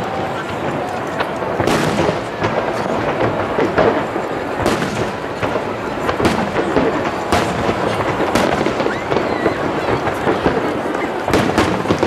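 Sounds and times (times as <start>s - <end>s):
firework shells booming: 0.0s - 12.0s.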